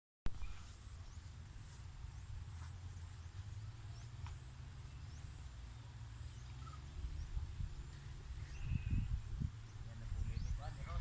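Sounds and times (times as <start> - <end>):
insects high-pitched drone: 0.3 - 11.0
pulsing insect chirp: 0.3 - 11.0.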